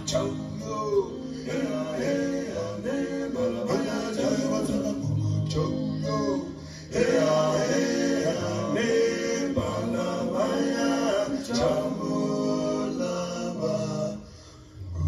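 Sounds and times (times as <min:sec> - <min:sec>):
man singing with harmonies: 0:00.0 - 0:15.0.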